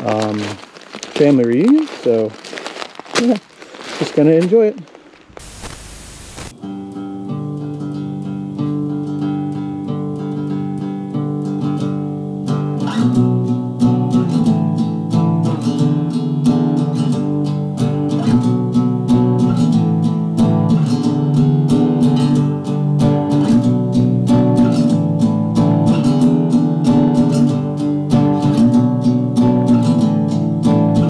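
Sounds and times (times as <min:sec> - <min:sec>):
guitar music with steady beat: 0:05.4 - 0:31.0.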